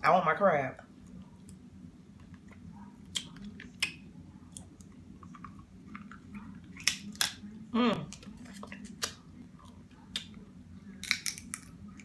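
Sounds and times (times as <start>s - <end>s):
steady low hum: 0.0s - 12.0s
soft chewing: 0.9s - 12.0s.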